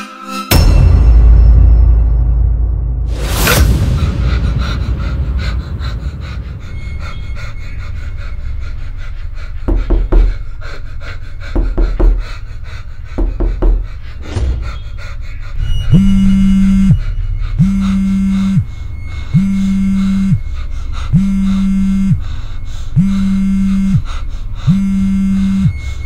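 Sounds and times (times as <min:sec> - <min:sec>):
deep low thumps: 0:00.5 - 0:10.7, 0:11.4 - 0:12.4, 0:13.1 - 0:26.0
person panting heavily: 0:03.4 - 0:26.0.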